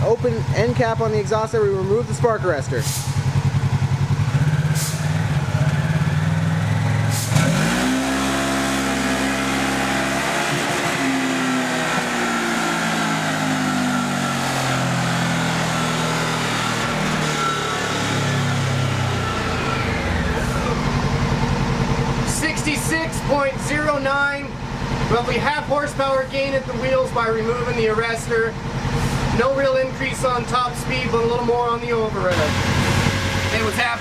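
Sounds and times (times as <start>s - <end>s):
engine idling and revving: 0.0s - 34.0s.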